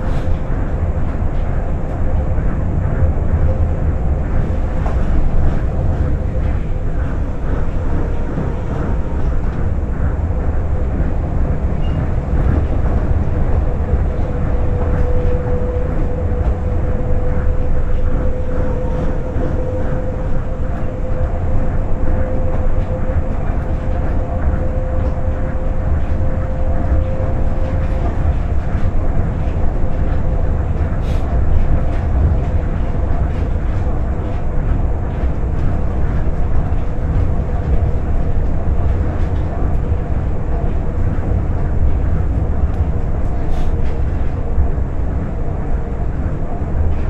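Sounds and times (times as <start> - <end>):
monorail train rumble: 0.0 - 47.0.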